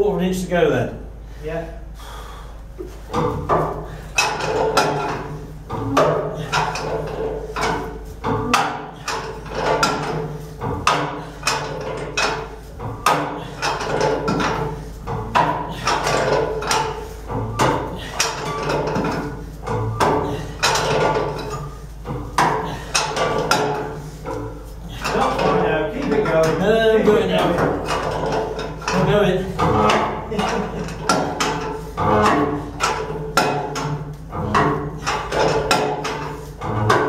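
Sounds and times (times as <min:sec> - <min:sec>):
steady low hum: 0:00.0 - 0:37.0
metal knocks and clanks: 0:02.9 - 0:37.0.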